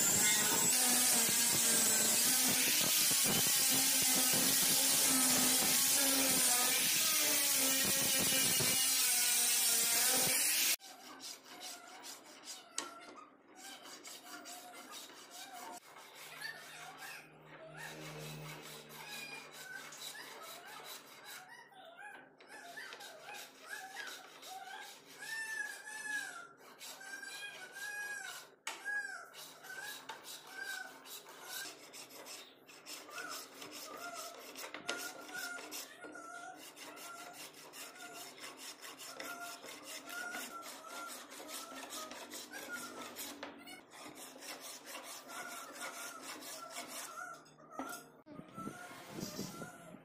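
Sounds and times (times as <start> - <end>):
plane shaving wood: 0.0 - 12.9, 13.6 - 21.5, 22.5 - 28.5, 29.2 - 47.9.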